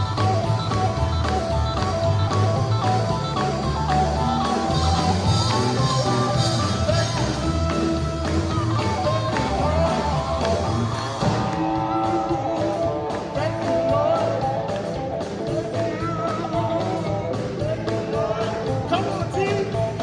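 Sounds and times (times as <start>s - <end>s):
gospel band playing live: 0.0s - 20.0s
steady bass: 0.0s - 20.0s.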